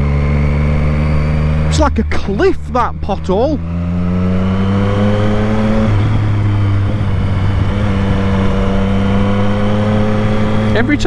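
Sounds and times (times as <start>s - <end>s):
motorcycle engine while riding: 0.0s - 11.0s.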